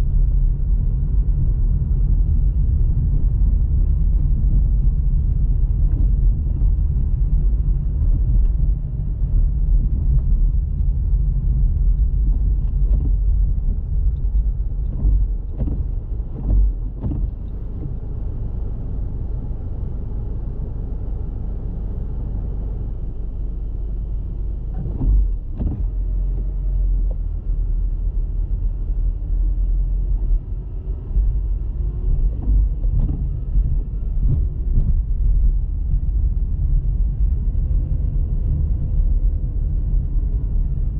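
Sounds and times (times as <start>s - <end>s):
car driving rumble: 0.0s - 40.9s.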